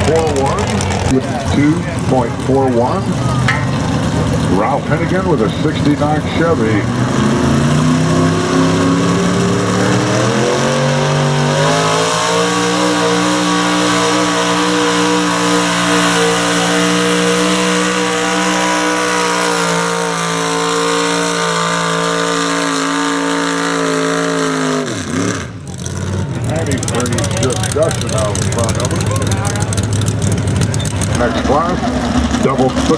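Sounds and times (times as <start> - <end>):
truck engine at full throttle: 0.0 - 32.9.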